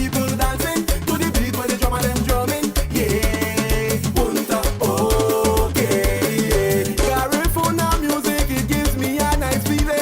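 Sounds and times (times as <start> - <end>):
upbeat latin music: 0.0 - 10.0.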